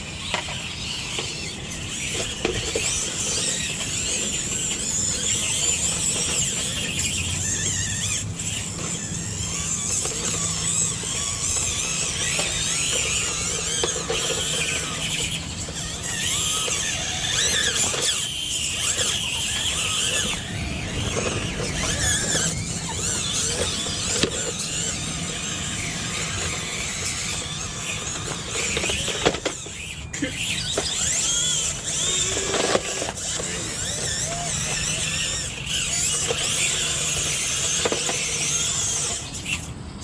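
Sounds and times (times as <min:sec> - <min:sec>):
small electric motors whining: 0:00.0 - 0:40.0.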